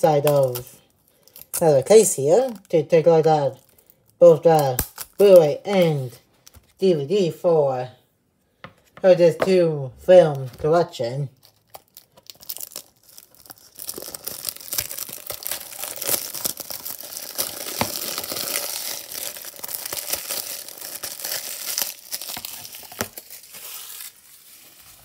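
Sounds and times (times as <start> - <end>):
plastic wrap crinkling and tearing: 0.0 - 6.8, 11.3 - 25.0.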